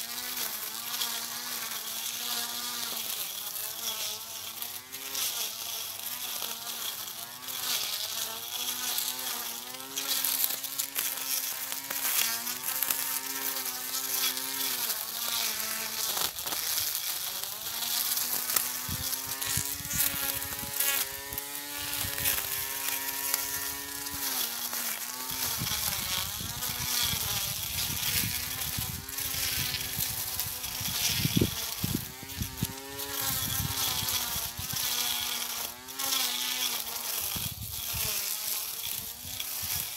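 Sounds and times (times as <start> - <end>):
grass cutter motor whining: 0.0 - 39.9.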